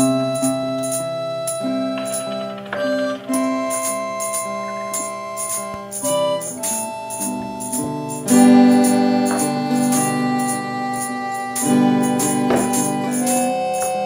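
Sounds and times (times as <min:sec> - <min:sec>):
music with sustained chords and beat: 0:00.0 - 0:14.0.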